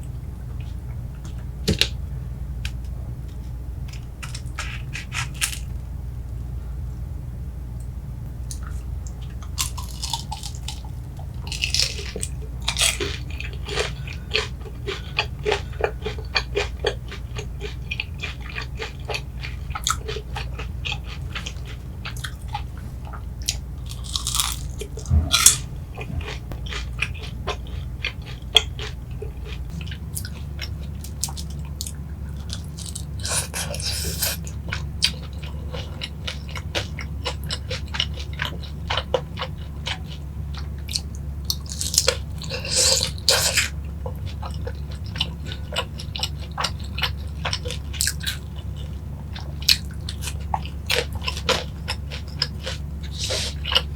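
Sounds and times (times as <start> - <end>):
steady low hum: 0.0 - 53.9
crunchy chewing: 3.3 - 5.8, 8.5 - 53.9.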